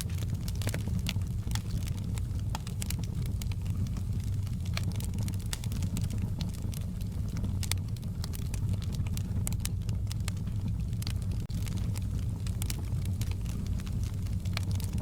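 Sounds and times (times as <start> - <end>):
low rumble of burning fire: 0.0 - 15.0
wood fire crackling: 0.0 - 15.0.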